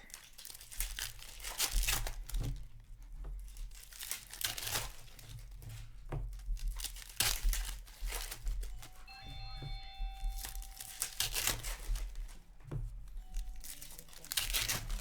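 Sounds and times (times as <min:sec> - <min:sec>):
wrappers tearing and crinkling: 0:00.0 - 0:02.8, 0:03.4 - 0:15.0.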